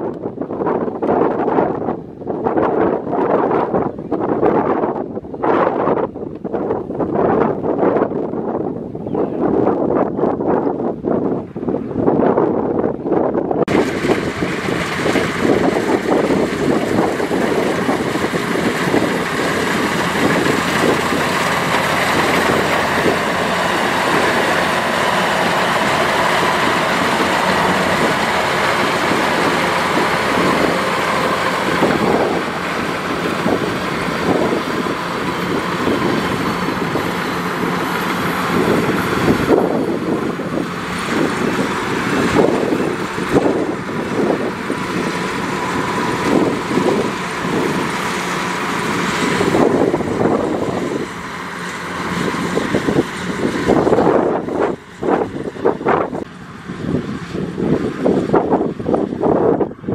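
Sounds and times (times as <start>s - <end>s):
combine harvester engine whining: 0.0s - 59.9s.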